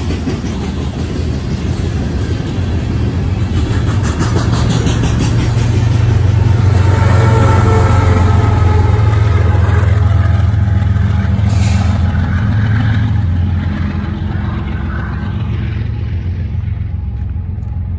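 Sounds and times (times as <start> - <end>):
locomotive engine drone: 0.0 - 17.9
train rolling rumble: 0.0 - 17.9.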